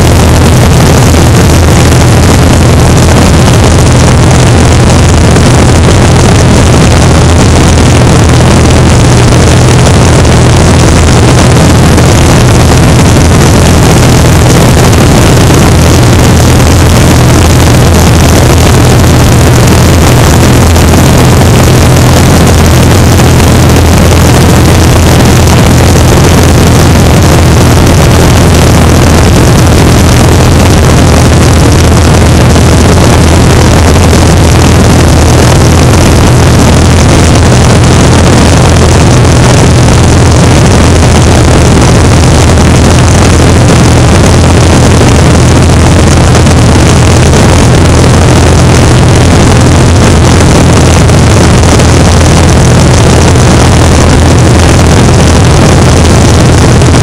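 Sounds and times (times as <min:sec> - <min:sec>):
airplane engine drone: 0:00.0 - 0:57.0
wind on microphone: 0:00.0 - 0:57.0.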